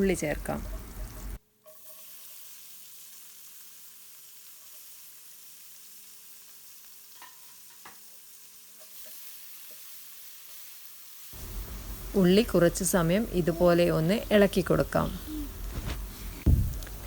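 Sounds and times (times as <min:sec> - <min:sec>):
onion sizzling in hot oil: 0:00.0 - 0:15.7.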